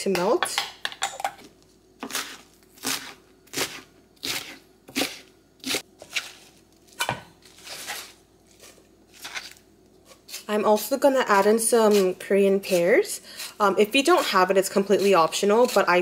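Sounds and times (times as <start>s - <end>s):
knife slicing cabbage on cutting board: 2.0s - 16.0s.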